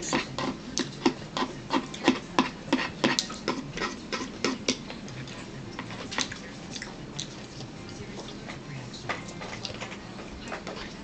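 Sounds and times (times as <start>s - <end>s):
chewing crunchy food: 0.0s - 11.0s.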